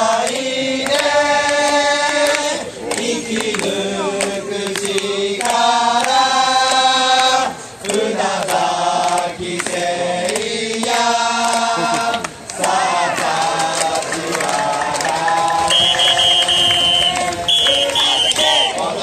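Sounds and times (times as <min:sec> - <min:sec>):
crowd singing in unison: 0:00.0 - 0:19.0
sharp rhythmic claps: 0:00.0 - 0:19.0.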